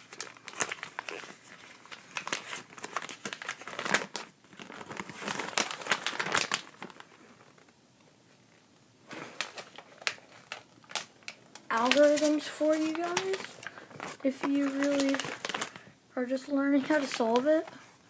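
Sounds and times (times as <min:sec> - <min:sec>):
packaging crinkling: 0:00.0 - 0:07.7, 0:09.1 - 0:16.0, 0:16.7 - 0:17.9.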